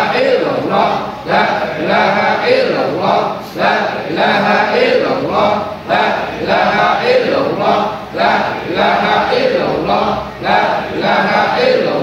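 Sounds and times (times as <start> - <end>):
men chanting in unison: 0.0 - 12.0.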